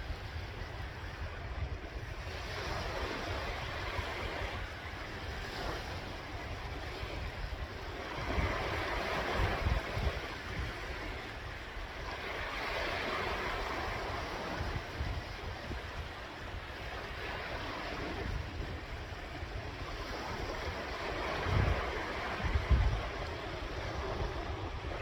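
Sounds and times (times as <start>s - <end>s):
sea waves washing ashore: 0.0s - 25.0s
wind buffeting microphone: 0.0s - 25.0s.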